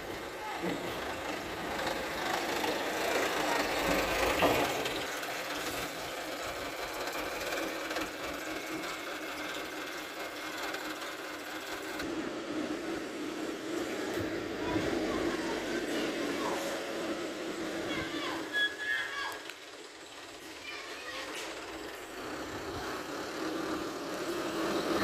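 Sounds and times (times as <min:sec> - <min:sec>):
truck diesel engine driving off: 0:00.0 - 0:25.0.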